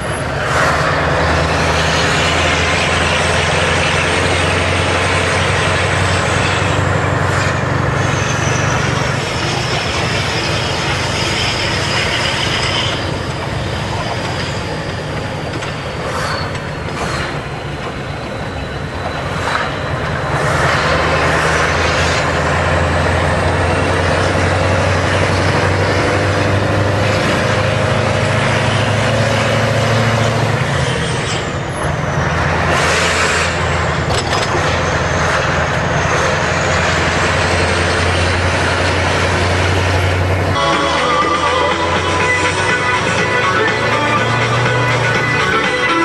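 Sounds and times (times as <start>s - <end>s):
truck engine rumbling: 0.0s - 46.0s.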